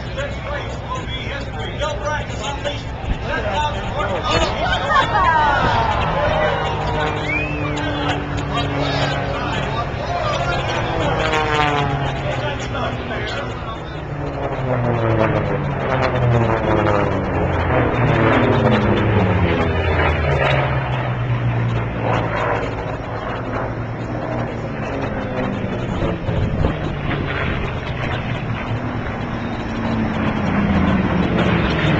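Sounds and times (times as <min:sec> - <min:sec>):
racing aircraft engine drone: 0:00.0 - 0:31.9.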